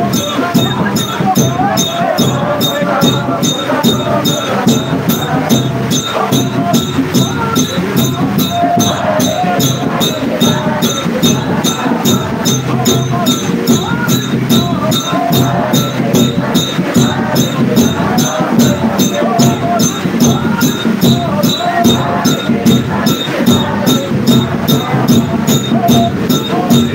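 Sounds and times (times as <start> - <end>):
congregation singing a hymn: 0.0 - 26.9
jingling percussion beat: 0.0 - 26.9.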